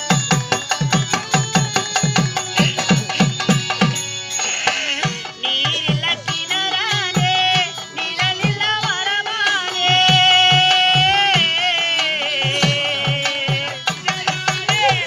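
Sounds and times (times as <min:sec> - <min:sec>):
hand drum beats: 0:00.0 - 0:15.0
harmonium: 0:00.0 - 0:15.0
person singing: 0:02.4 - 0:15.0.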